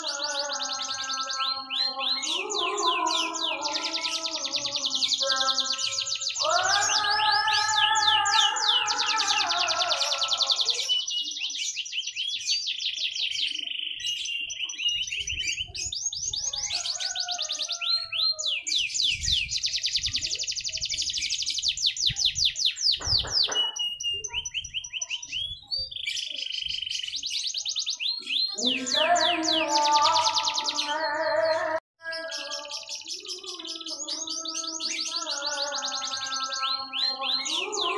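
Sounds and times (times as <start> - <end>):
canary singing trills: 0.0 - 37.9.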